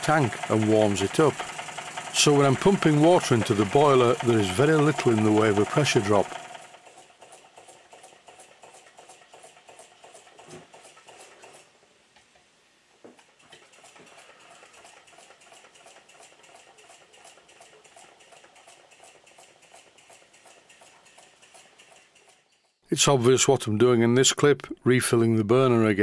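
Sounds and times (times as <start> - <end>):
model steam engine ticking: 0.0 - 11.6, 13.4 - 22.8.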